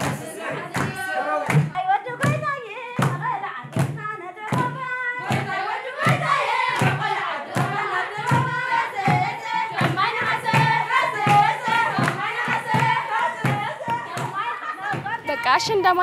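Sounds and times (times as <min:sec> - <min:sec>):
girls singing together: 0:00.0 - 0:15.5
drum beating steadily: 0:03.0 - 0:16.0.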